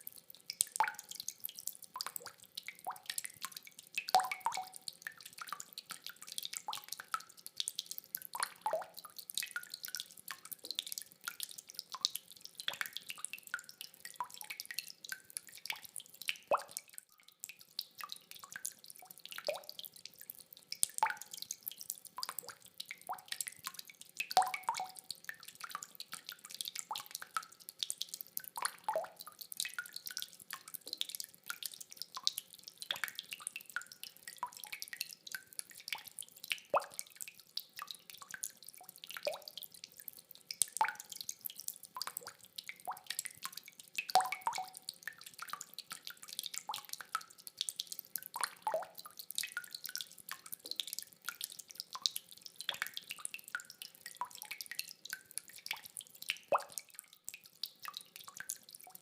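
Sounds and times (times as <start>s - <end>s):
rainwater dripping: 0.0s - 59.0s.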